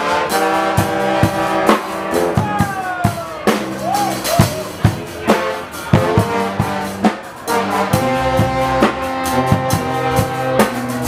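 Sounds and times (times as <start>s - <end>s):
bass drum and snare: 0.0s - 11.0s
brass chords: 0.0s - 11.0s.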